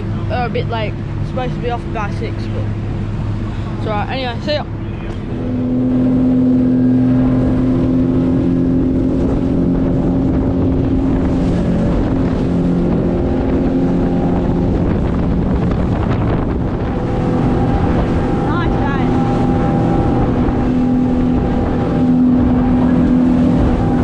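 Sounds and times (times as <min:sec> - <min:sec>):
motorboat engine running: 0:00.0 - 0:24.0
water spraying off hull: 0:00.0 - 0:24.0
wind on microphone: 0:00.0 - 0:24.0.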